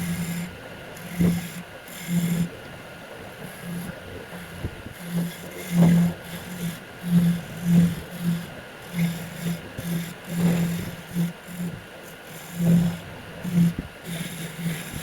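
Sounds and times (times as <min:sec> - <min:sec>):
hand tool scraping wood: 0:00.0 - 0:02.5, 0:03.4 - 0:15.0
wood lathe spinning: 0:00.0 - 0:02.6, 0:03.2 - 0:15.0.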